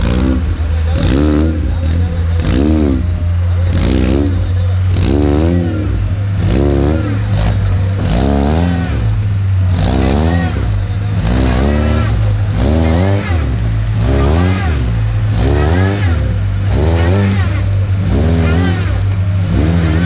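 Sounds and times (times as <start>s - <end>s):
low engine rumble: 0.0s - 20.0s
vehicle engine revving: 0.0s - 20.0s.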